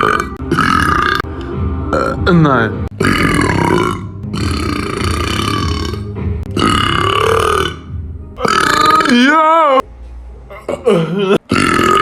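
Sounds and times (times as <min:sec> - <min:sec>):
man burping loudly: 0:00.0 - 0:01.3, 0:01.9 - 0:02.3, 0:02.9 - 0:09.5, 0:10.6 - 0:12.0.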